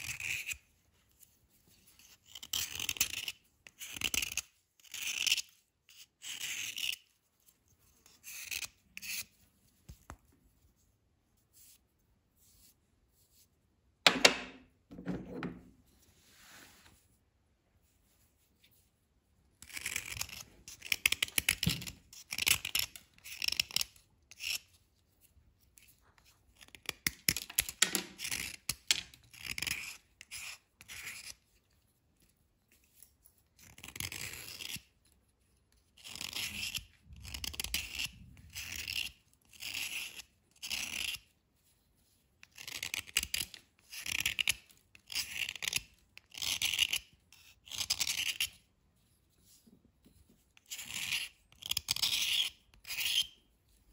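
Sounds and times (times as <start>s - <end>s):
knife scraping chalky bar: 0.0s - 10.2s, 19.5s - 53.9s.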